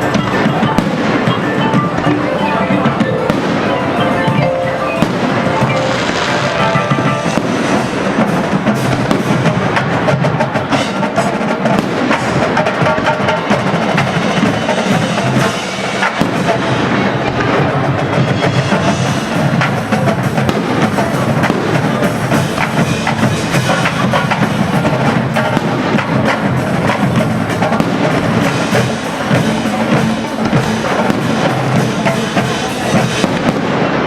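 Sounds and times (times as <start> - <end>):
music with drums and mallet percussion: 0.0 - 33.9
fireworks popping and crackling: 0.0 - 34.0.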